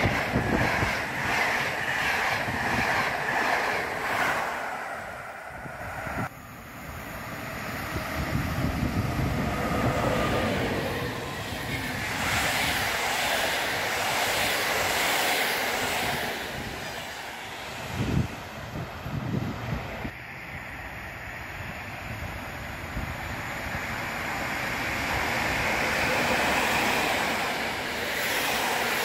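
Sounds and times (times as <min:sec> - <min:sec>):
passenger train passing: 0:00.0 - 0:29.0.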